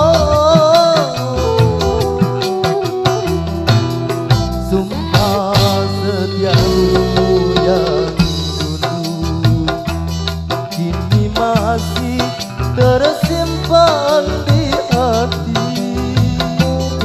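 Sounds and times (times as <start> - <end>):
drums keeping a steady beat: 0.0 - 17.0
electric guitar: 0.0 - 17.0
keyboard: 0.0 - 17.0.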